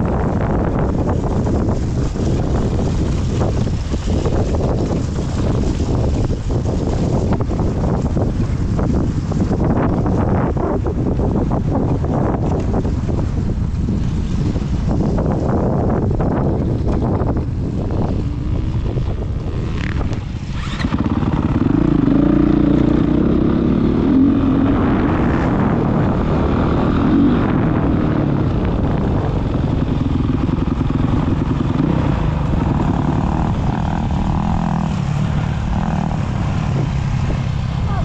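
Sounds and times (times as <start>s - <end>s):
dirt bike engine running: 0.0s - 38.0s
wind buffeting microphone: 0.0s - 38.0s.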